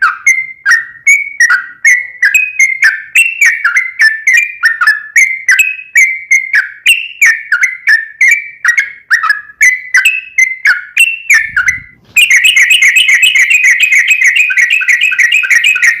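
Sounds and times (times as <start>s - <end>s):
bird whistled song: 0.0s - 16.0s.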